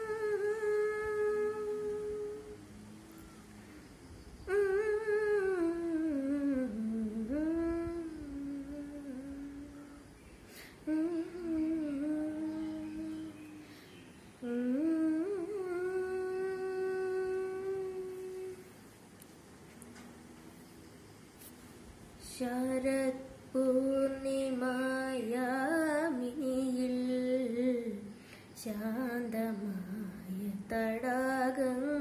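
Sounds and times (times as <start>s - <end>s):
boy humming a slow melody: 0.0s - 21.0s, 22.0s - 32.0s.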